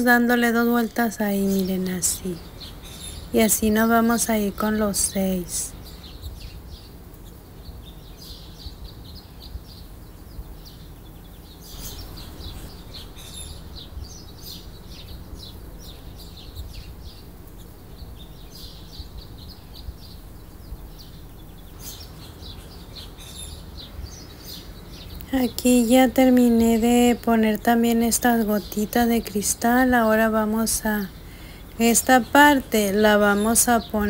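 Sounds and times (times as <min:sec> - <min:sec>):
low steady hum: 0:00.0 - 0:34.0
small birds chirping: 0:00.0 - 0:34.0.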